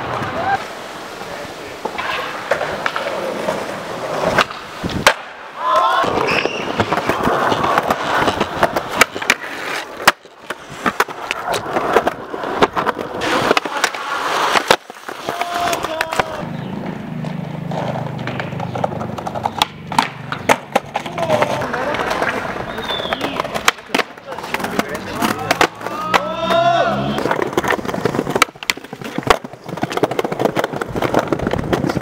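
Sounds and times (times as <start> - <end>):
skateboard wheels rolling on concrete: 0.0 - 32.0
skateboard clacking on ground: 1.7 - 32.0.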